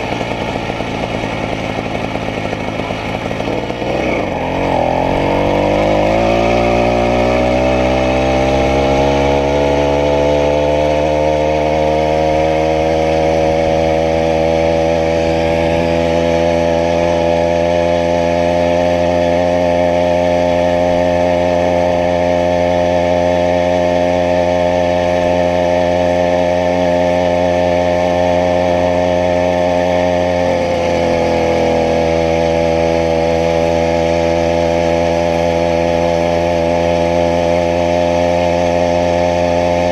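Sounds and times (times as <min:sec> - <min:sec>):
two-stroke bicycle engine buzzing: 0:00.0 - 0:39.9.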